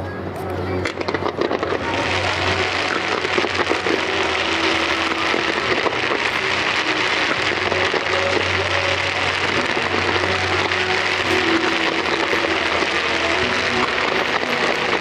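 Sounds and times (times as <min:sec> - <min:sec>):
fireworks crackling: 0:00.2 - 0:15.0.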